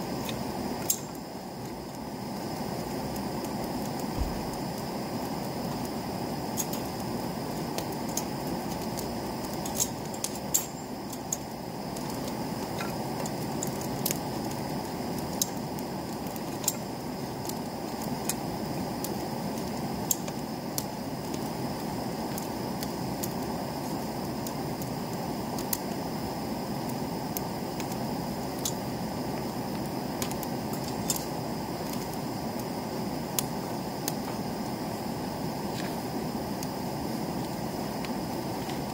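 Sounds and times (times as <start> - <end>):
fire crackling and popping: 0.0 - 38.9
low rushing fire noise: 0.0 - 38.9.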